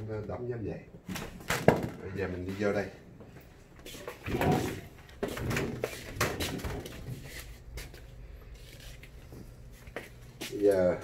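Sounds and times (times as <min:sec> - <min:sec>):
objects rustling and clattering: 0:01.0 - 0:11.0.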